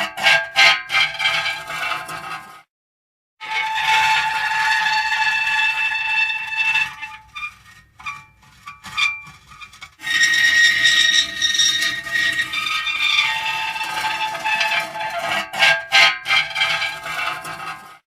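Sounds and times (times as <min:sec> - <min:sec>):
metal creaking squeal: 0:00.0 - 0:02.5, 0:03.4 - 0:18.0
short metal squeaks: 0:03.4 - 0:18.0.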